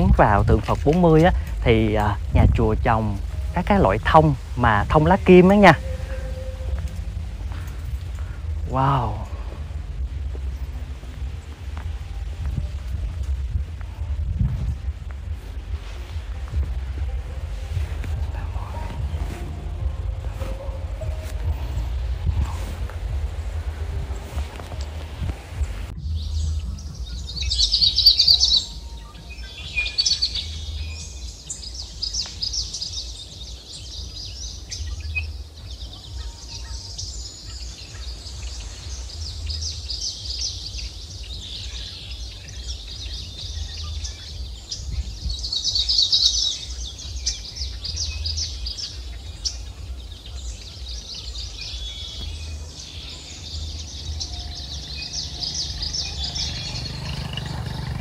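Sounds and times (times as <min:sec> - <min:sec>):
birds chirping: 0:00.0 - 0:58.0
low rumble: 0:00.0 - 0:58.0.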